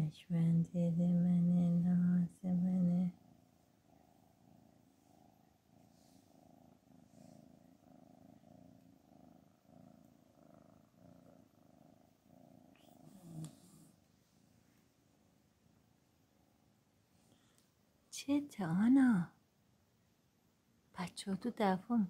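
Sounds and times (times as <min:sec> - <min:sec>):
cat purring: 0:00.0 - 0:18.6.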